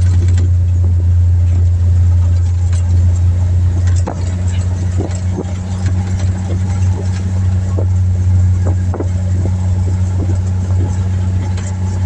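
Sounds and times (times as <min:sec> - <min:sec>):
knocks and rattles from bumps: 0:00.0 - 0:12.0
vehicle engine and road drone: 0:00.0 - 0:12.0.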